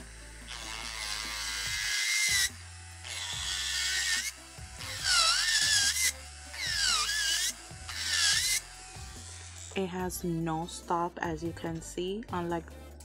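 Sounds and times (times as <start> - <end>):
electric nail drill whining: 0.0 - 10.8.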